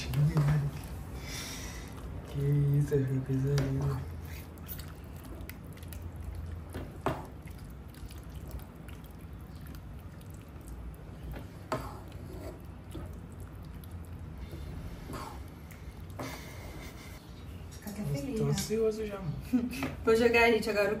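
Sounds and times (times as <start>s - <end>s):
sauce cooking and stirred: 0.0s - 17.8s
low steady hum: 0.0s - 21.0s.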